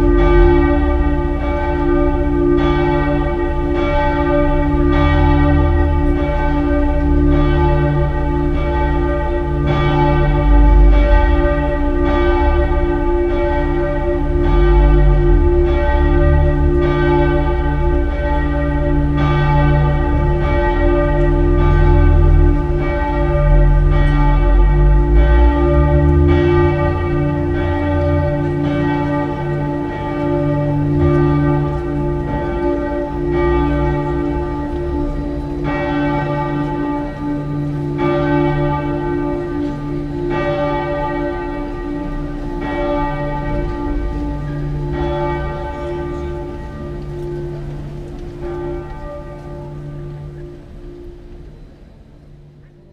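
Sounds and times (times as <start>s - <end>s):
church bells pealing: 0.0s - 52.9s.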